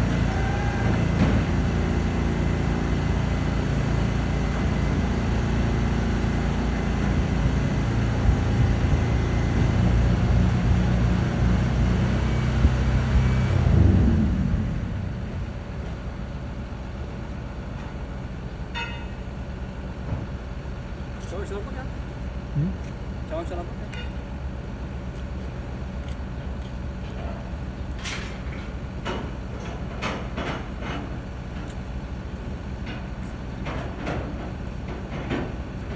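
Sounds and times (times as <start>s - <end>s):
truck engine running: 0.0s - 35.9s.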